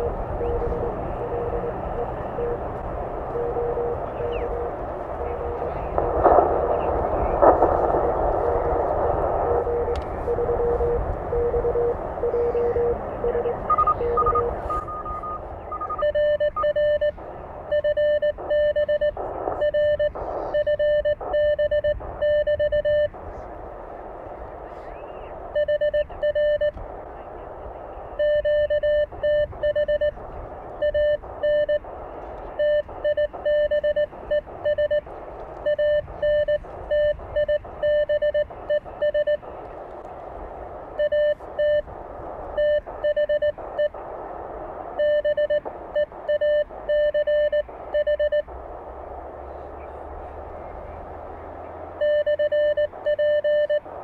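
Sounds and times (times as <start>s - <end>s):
morse code beeps: 0.0s - 23.2s, 25.5s - 26.8s, 28.0s - 39.6s, 41.0s - 41.9s, 42.5s - 44.0s, 44.9s - 48.5s, 52.0s - 54.0s
receiver hiss: 0.0s - 54.0s.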